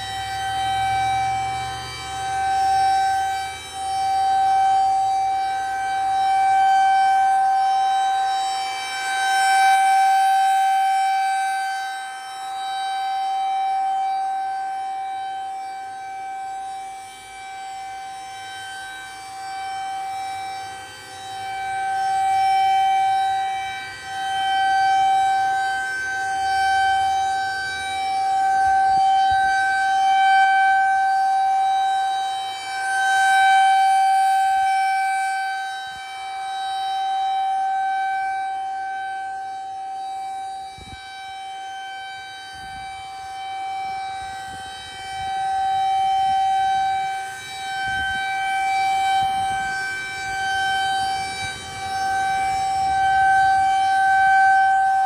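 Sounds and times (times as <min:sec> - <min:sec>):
rotating warning siren: 0:00.0 - 0:55.0.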